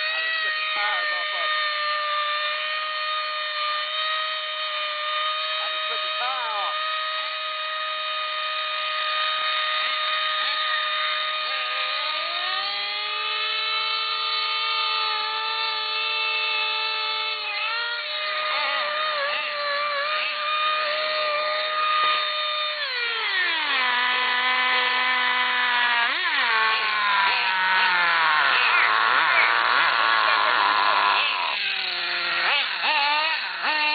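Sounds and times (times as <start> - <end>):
toy car motor whining: 0.0 - 33.9.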